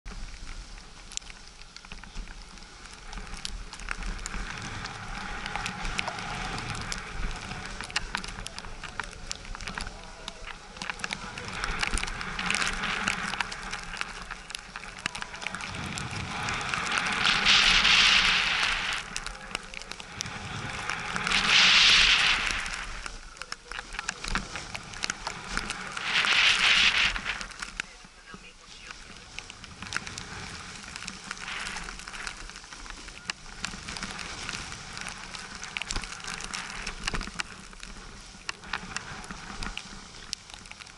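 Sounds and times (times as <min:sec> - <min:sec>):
wind rumbling on microphone: 0:00.1 - 0:40.9
snow hissing under sliding rider: 0:02.4 - 0:40.3.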